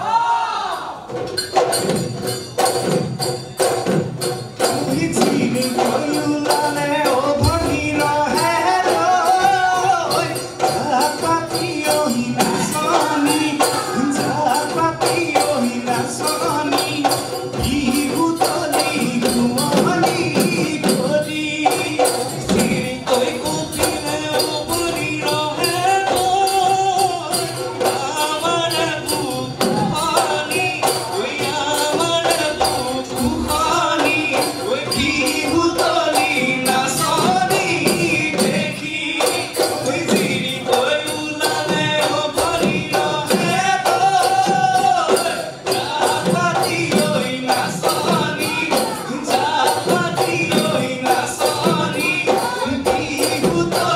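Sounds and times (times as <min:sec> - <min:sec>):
drums beating fast rhythm: 0:00.0 - 0:53.9
jingling percussion: 0:01.0 - 0:53.9
voices singing: 0:04.6 - 0:53.9.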